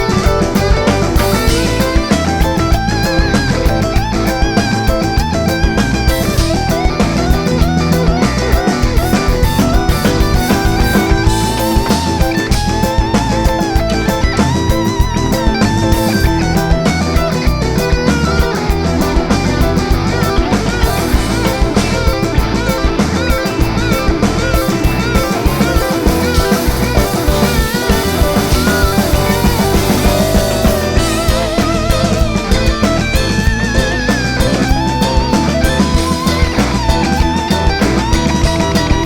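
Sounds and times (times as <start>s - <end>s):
bass guitar: 0.0s - 39.0s
drum kit beat: 0.0s - 39.0s
electric guitar bent notes: 0.0s - 39.0s.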